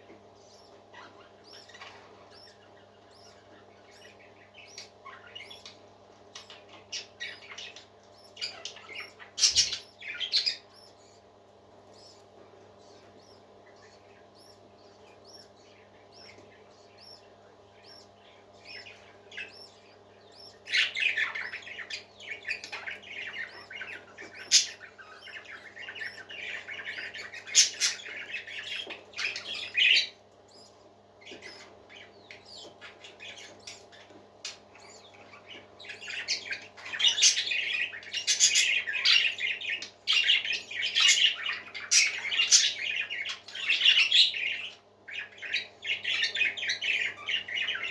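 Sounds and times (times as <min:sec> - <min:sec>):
parakeets chattering and squawking: 0:00.0 - 0:47.9
steady low hum: 0:00.0 - 0:47.9.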